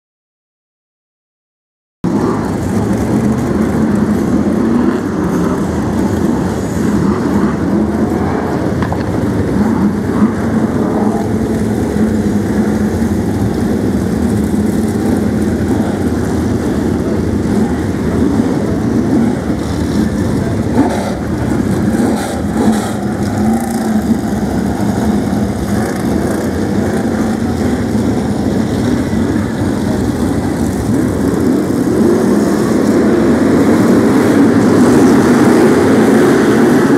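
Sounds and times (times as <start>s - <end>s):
stock car engines rumbling: 2.0s - 36.9s.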